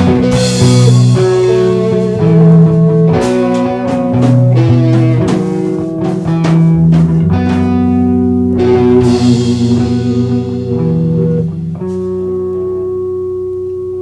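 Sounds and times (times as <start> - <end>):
drum hits: 0.0 - 12.4
bass guitar: 0.0 - 14.0
electric guitar: 0.0 - 14.0.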